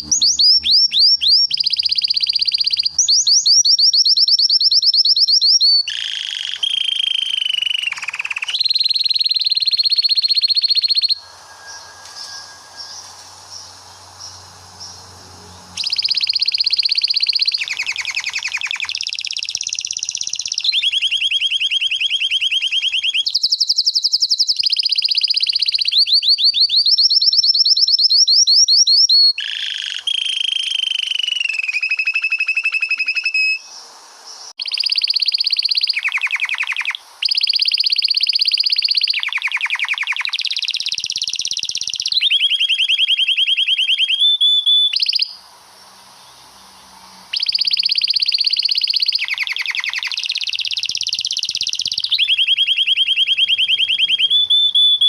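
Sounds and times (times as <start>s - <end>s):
canary singing trills: 0.0s - 33.8s, 34.6s - 45.4s, 46.0s - 55.0s.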